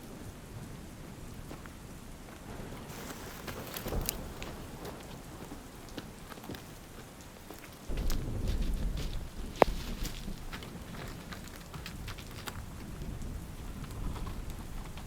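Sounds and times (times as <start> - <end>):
raindrops pattering: 0.0 - 15.0.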